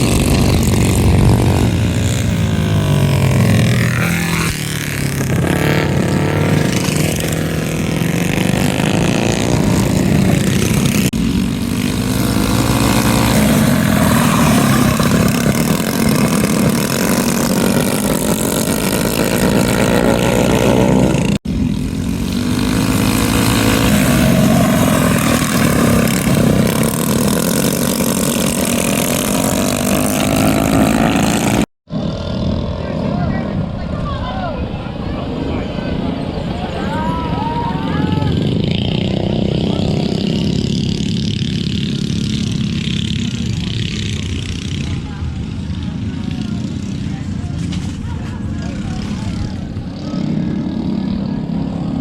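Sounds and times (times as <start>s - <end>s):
small engines revving: 0.0s - 34.0s, 34.9s - 52.0s.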